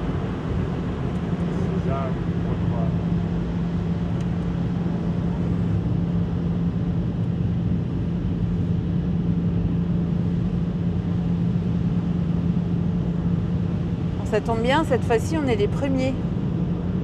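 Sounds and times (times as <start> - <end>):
ferry engines droning: 0.0 - 17.0.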